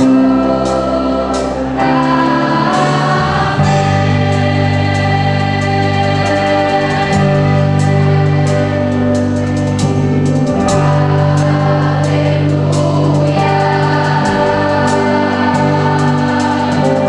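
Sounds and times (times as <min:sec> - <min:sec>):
sustained keyboard chords: 0:00.0 - 0:17.0
voices singing together: 0:00.0 - 0:17.0.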